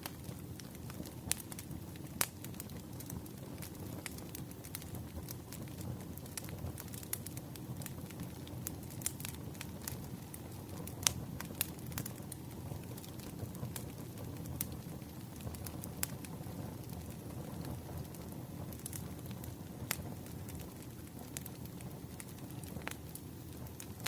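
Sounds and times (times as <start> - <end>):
fire popping and snapping: 0.0 - 24.0
wood fire crackling: 0.0 - 24.0.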